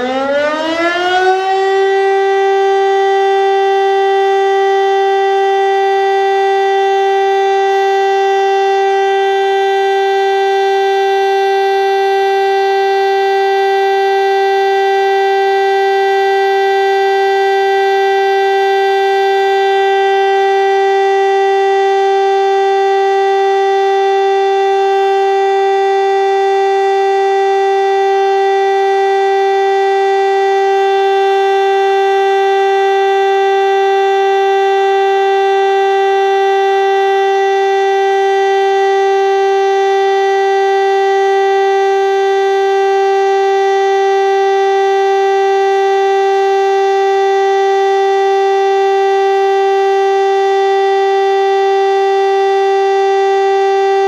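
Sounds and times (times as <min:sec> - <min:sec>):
siren steady tone: 0:00.0 - 0:54.0.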